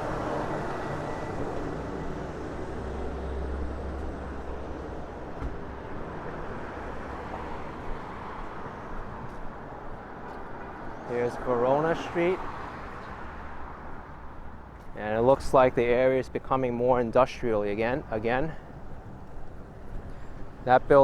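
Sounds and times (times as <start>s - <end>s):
passing vehicle engine rumble: 0.0s - 21.0s
traffic hum: 0.0s - 21.0s.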